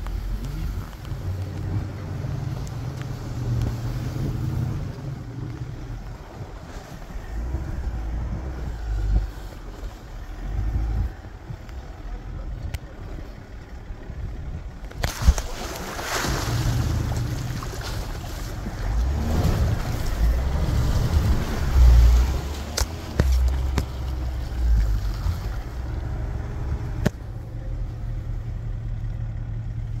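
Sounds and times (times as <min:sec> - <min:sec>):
tyres rushing in snow: 0:00.0 - 0:12.5, 0:15.0 - 0:27.4
truck engine pulling under load: 0:00.0 - 0:30.0.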